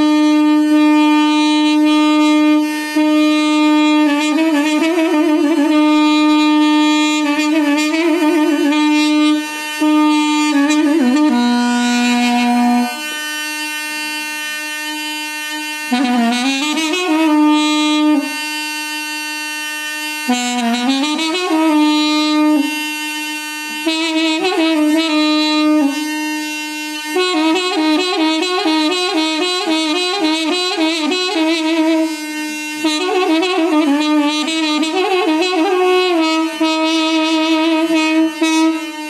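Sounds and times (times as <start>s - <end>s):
held low drone note: 0.0s - 39.0s
reedy wind instrument melody: 0.0s - 39.0s.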